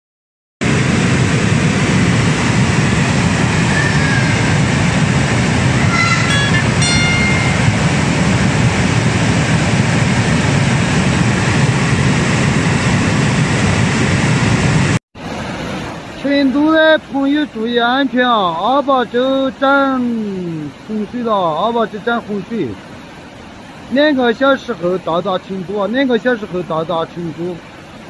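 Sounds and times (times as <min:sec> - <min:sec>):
flood water rushing: 0:00.9 - 0:12.2, 0:15.2 - 0:28.0.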